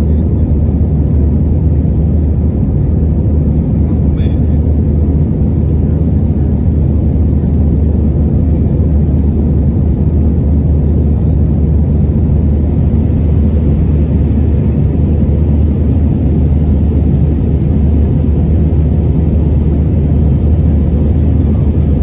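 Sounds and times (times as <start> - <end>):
deep engine drone: 0.0 - 22.0.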